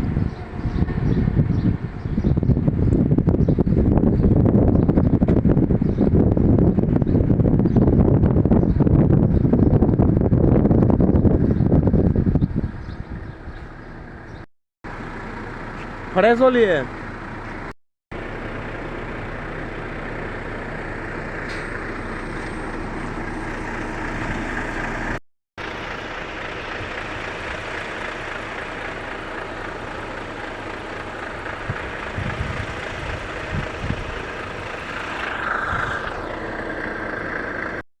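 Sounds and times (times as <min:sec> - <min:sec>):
heavy truck running: 0:00.0 - 0:37.8
road noise: 0:00.0 - 0:37.8.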